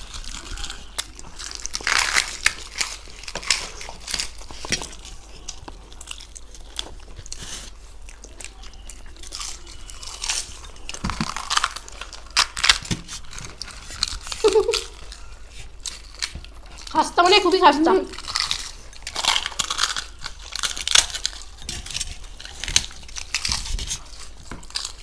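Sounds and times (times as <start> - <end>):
crunching fried pastry: 0.0 - 25.0.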